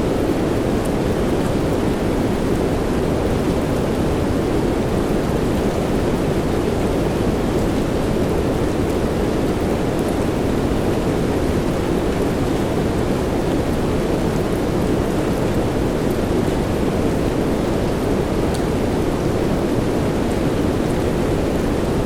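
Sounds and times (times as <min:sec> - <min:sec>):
soft rain hiss: 0:00.0 - 0:22.0.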